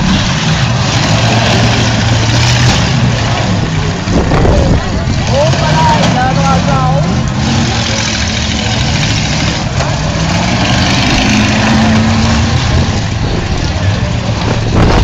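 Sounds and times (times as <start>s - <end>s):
car engines running: 0.0s - 15.0s
engine revving up: 0.0s - 15.0s.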